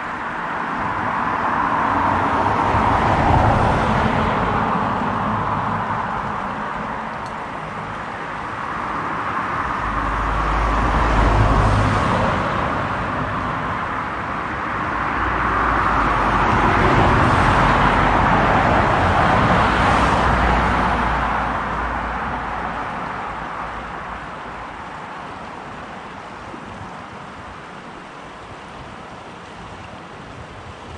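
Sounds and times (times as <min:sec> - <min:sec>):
cars passing: 0:00.0 - 0:30.9.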